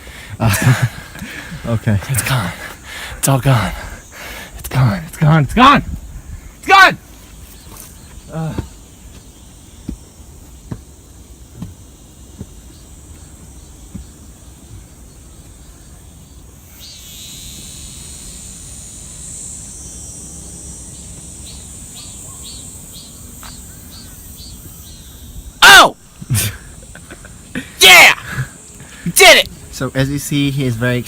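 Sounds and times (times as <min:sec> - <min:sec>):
cicadas buzzing: 0:00.0 - 0:31.0
pulsing insect call: 0:00.0 - 0:31.0.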